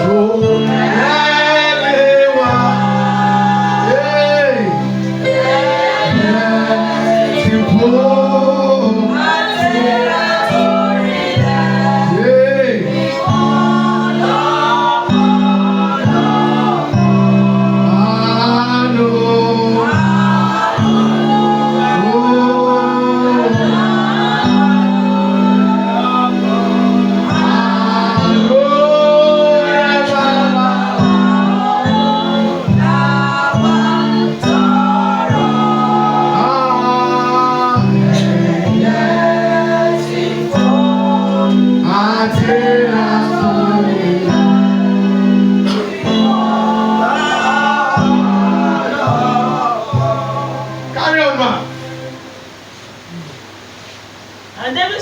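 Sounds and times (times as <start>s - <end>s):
man singing lead: 0.0s - 53.4s
held low chords: 0.0s - 53.5s
voices singing along: 0.0s - 55.0s.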